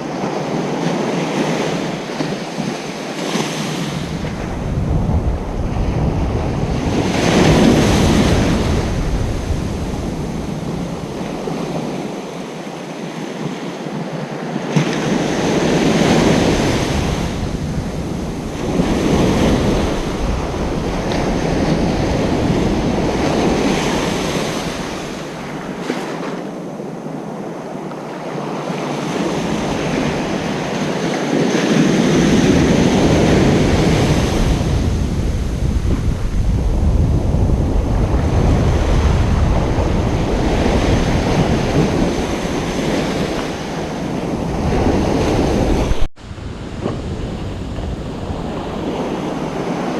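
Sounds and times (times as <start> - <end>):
ocean waves breaking: 0.0 - 49.9.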